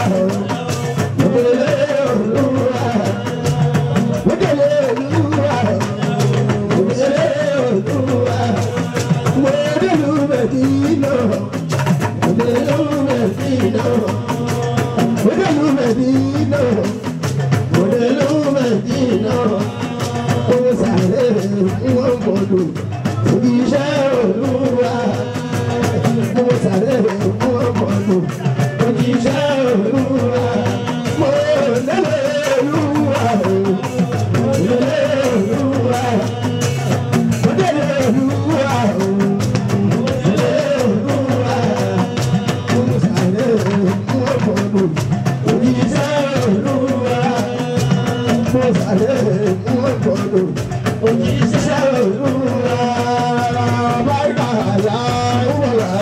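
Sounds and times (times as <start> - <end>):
drums and percussion: 0.0 - 56.0
man singing into microphone: 0.0 - 56.0.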